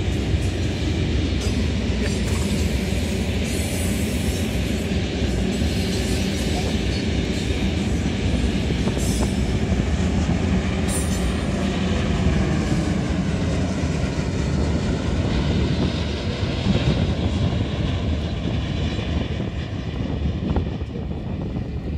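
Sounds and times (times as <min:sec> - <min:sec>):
train wheels rumbling on track: 0:00.0 - 0:21.9.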